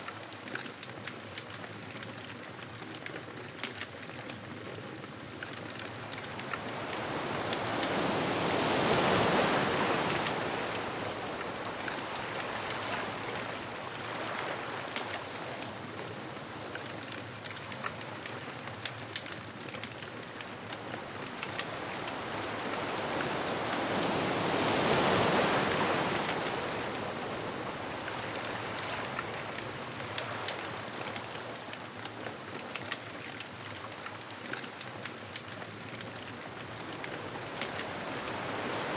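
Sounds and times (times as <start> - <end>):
bonfire crackling: 0.1 - 38.9
ocean waves breaking on shore: 5.0 - 38.9.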